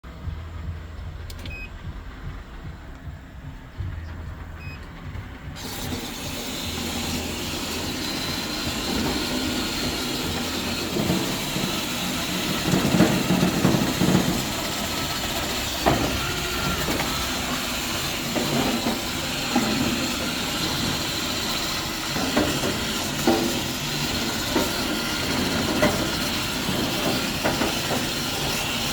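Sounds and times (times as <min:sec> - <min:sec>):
knocks and rattles on grill: 0:03.8 - 0:28.9
grill brush motors whirring: 0:04.5 - 0:28.9
brushes scraping grill grates: 0:05.6 - 0:28.9.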